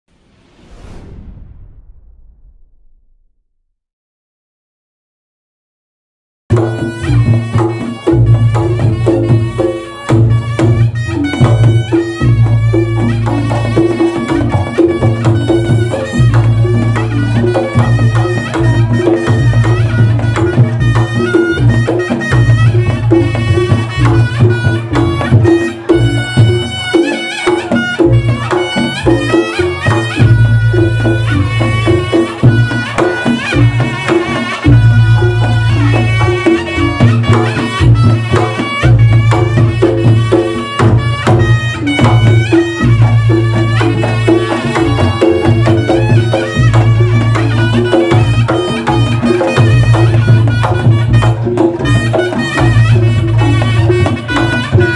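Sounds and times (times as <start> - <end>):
drum strokes: 6.5 - 54.9
gamelan ensemble playing: 6.6 - 54.9.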